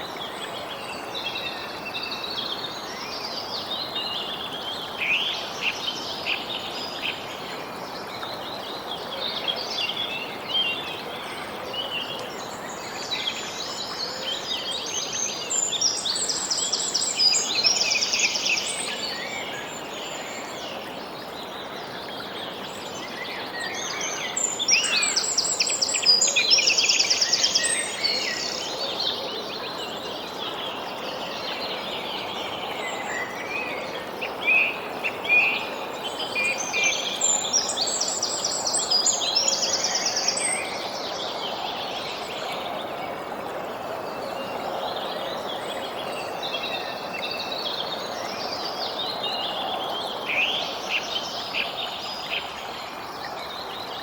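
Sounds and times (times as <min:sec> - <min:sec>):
background hiss: 0:00.0 - 0:54.0.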